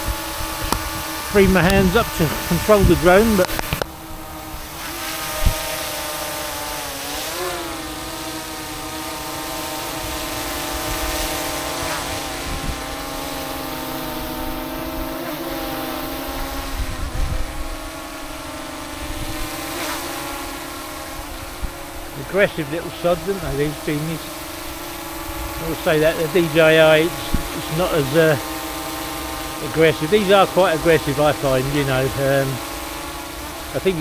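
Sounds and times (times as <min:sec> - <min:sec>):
wind rumbling on microphone: 0:00.0 - 0:06.9, 0:09.8 - 0:32.7
drone propellers whining: 0:00.0 - 0:34.0.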